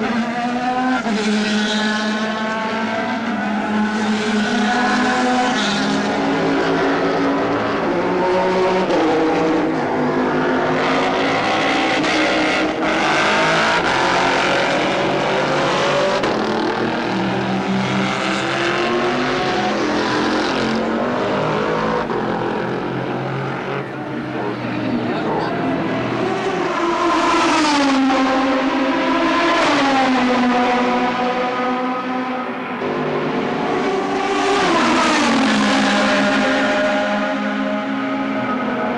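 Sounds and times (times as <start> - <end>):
racing car engines passing: 0.0 - 38.9.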